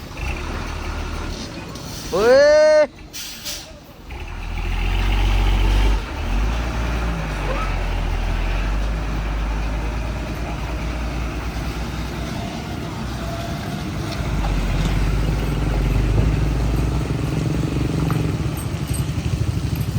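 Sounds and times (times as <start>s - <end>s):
truck engine droning: 0.0s - 19.9s.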